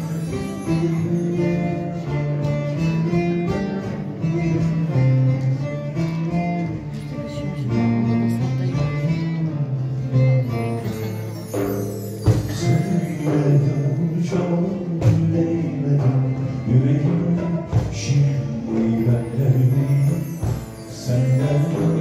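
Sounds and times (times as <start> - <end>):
lutes and acoustic guitar playing: 0.0 - 22.0.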